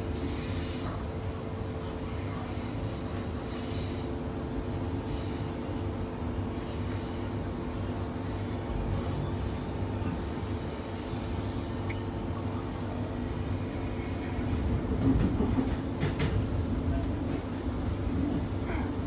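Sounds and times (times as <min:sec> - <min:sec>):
train wheels rumbling on track: 0:02.7 - 0:19.0.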